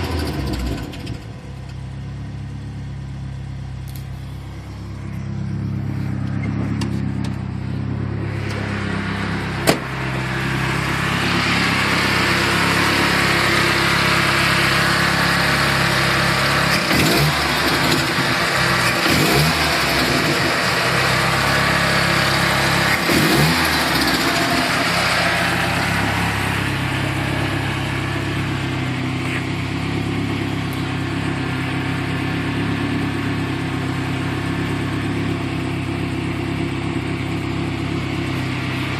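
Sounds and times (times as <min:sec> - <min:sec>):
engine revving: 0:00.0 - 0:01.2, 0:03.8 - 0:38.9
truck engine running: 0:00.0 - 0:38.9.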